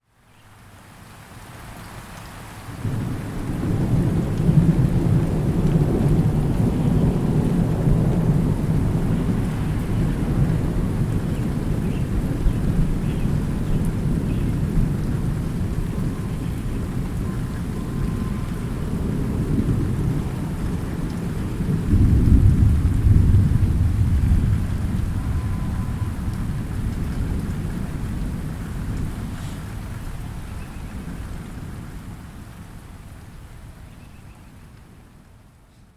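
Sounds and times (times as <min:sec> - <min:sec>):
steady light rain: 0:00.0 - 0:35.9
thunder rumbling: 0:02.8 - 0:32.2.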